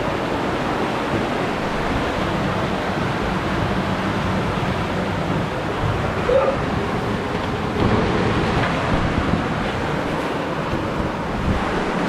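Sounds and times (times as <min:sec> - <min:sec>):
underground river rushing: 0:00.0 - 0:12.0.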